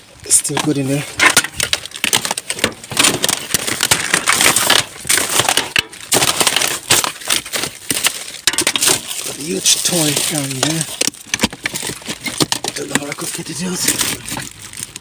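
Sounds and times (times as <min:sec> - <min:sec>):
rubbish clattering and rustling: 0:00.3 - 0:15.0.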